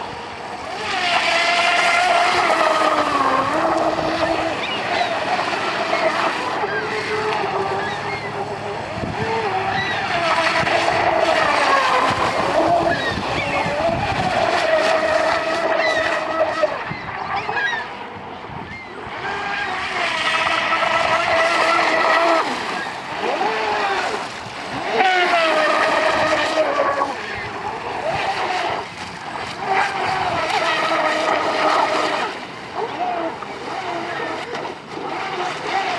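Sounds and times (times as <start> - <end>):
rc boat motor whining: 0.0 - 35.9.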